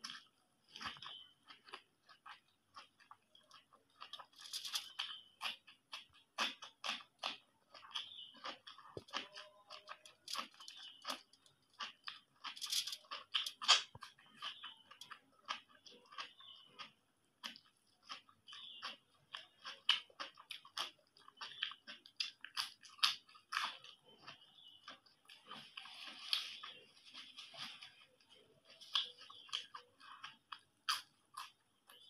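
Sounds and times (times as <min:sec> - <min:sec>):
mouth clicks and smacks: 0:00.0 - 0:27.8
chewing and crunching food: 0:00.0 - 0:32.0.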